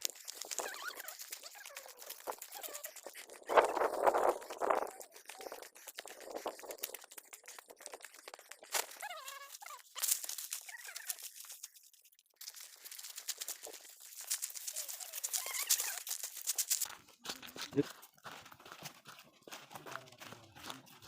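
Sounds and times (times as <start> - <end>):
footsteps crunching on dry trail: 0.0 - 21.0.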